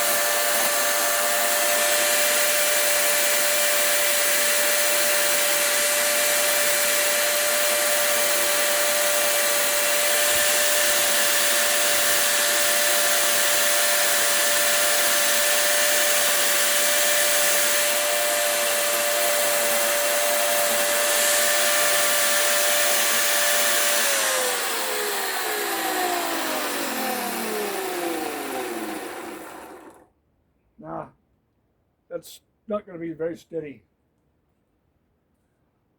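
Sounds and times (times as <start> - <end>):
rotary tool whining: 0.0 - 30.0.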